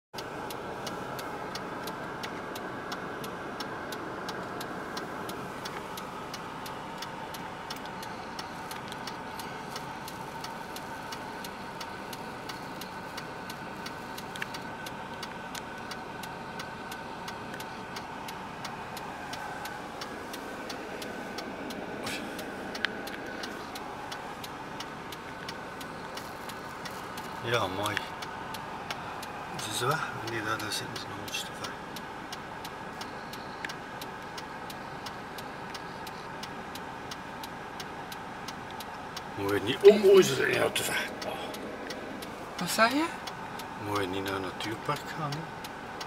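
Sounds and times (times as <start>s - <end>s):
car engine idling: 0.2s - 46.0s
fast even ticking: 0.2s - 46.0s.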